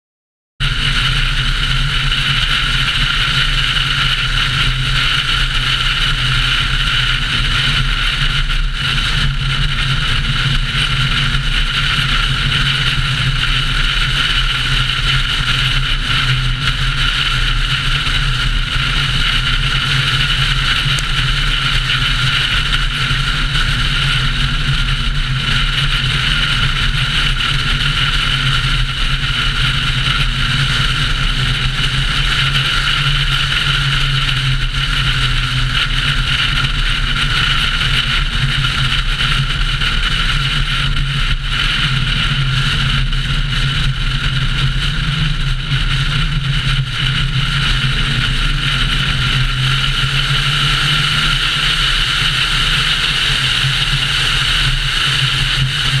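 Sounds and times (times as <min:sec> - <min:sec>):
car engine and road drone: 0:00.6 - 0:56.0
wind noise: 0:00.6 - 0:56.0.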